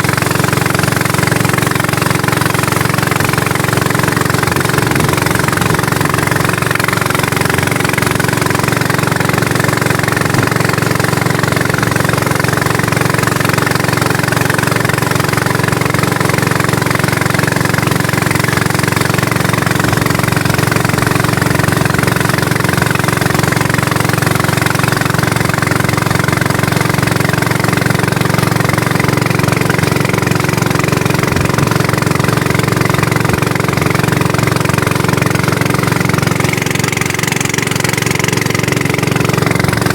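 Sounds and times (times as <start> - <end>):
motor engine running: 0.0 - 39.9.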